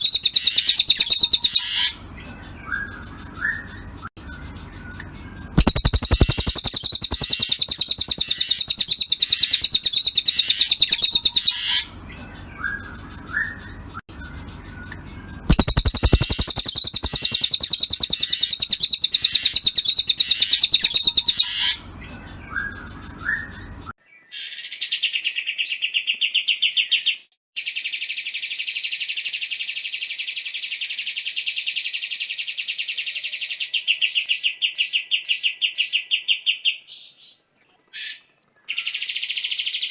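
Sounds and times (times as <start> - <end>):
bird chirps: 0.0 - 37.4
bird song with high trills: 0.0 - 37.4.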